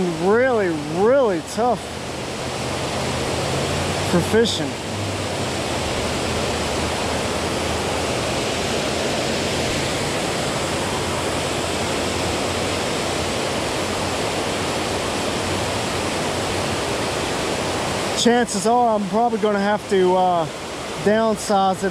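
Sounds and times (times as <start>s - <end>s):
water rushing over spillway: 0.0s - 21.9s.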